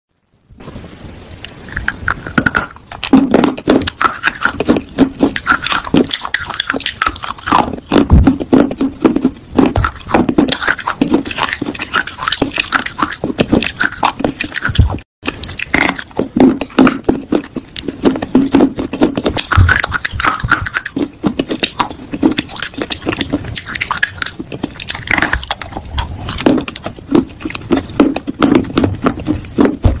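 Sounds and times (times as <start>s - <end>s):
biting and chewing fruit: 1.4s - 30.0s.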